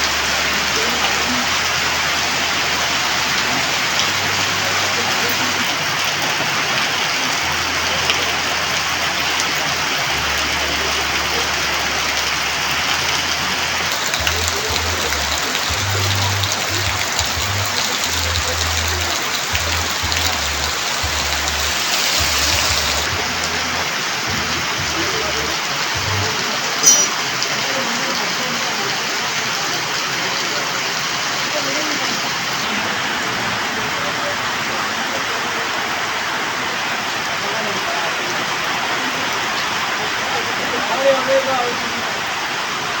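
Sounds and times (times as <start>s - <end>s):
raindrops ticking on surfaces: 0.0s - 42.9s
heavy rain pouring: 0.0s - 43.0s.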